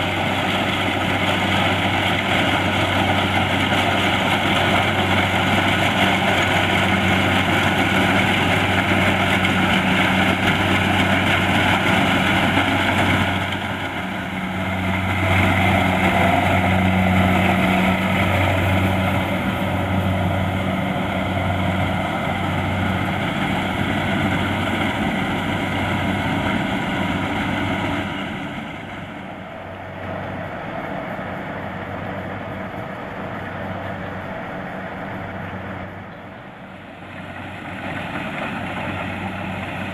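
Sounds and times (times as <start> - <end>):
combine harvester diesel engine hum: 0.0 - 39.9
machinery clatter: 0.0 - 39.9.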